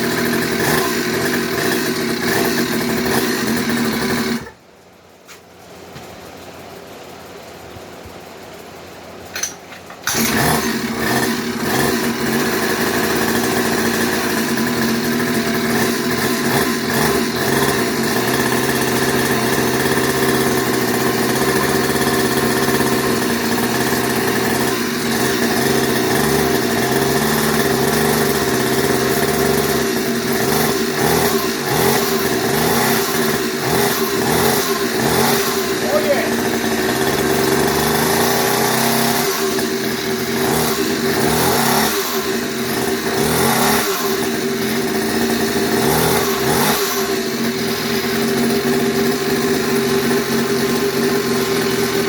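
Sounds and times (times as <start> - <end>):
two-stroke engine running: 0.0 - 52.0.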